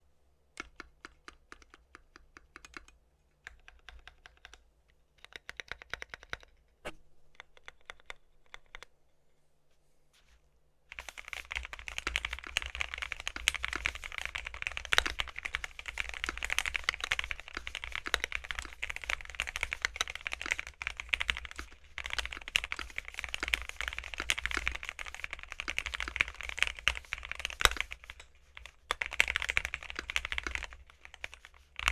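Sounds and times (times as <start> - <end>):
mechanical keyboard typing: 0.6 - 4.6, 5.2 - 6.6, 11.0 - 31.9.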